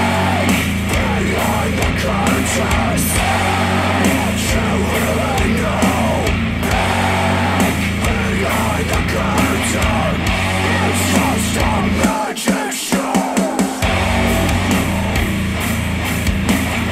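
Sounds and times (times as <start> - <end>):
bass line: 0.0 - 12.1, 13.8 - 16.9
person singing: 0.0 - 15.5.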